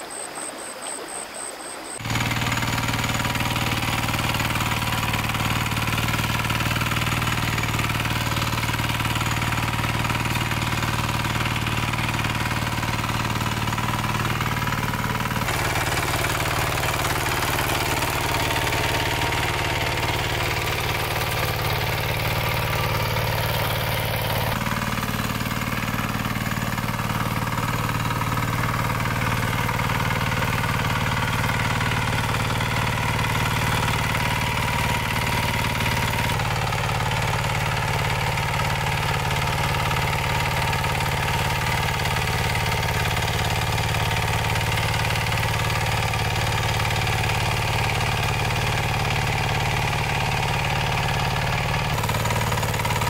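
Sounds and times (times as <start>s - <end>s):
small engine running: 2.0s - 53.0s.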